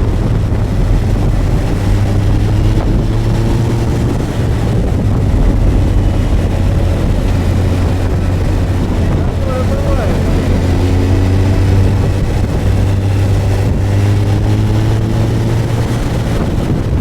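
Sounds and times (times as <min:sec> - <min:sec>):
motorcycle engine humming: 0:00.0 - 0:17.0
wind rushing over microphone: 0:00.0 - 0:17.0.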